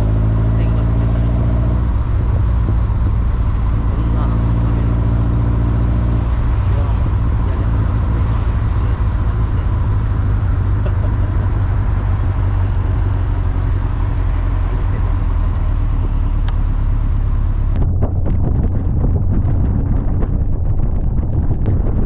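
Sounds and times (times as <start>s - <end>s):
car engine drone: 0.0s - 22.0s
road and wind hiss: 0.0s - 22.0s
wind buffeting microphone: 0.0s - 22.0s.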